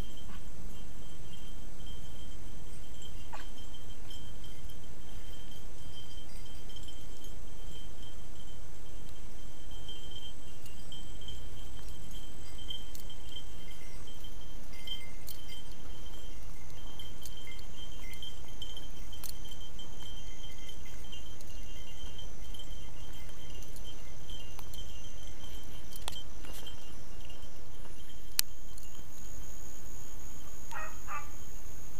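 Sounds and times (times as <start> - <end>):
insects chorus: 0.0 - 31.9
wind rumble on microphone: 0.0 - 31.9.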